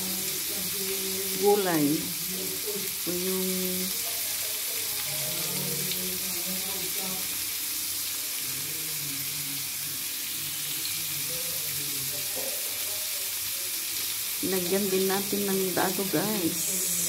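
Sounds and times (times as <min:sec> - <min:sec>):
asparagus sizzling in oil: 0:00.0 - 0:17.0.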